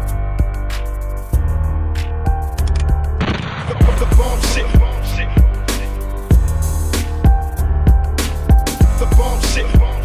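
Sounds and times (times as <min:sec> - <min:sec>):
hip-hop beat: 0:00.0 - 0:10.0.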